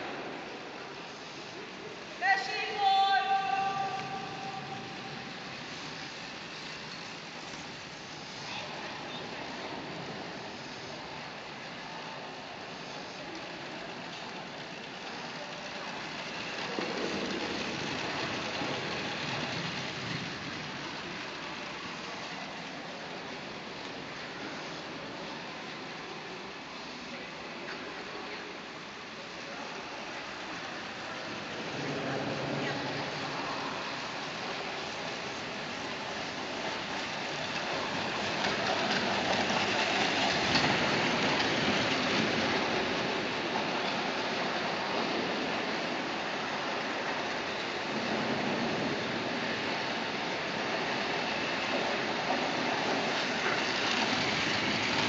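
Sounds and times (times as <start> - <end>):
bicycle tyres humming on wooden track: 0.0 - 55.0.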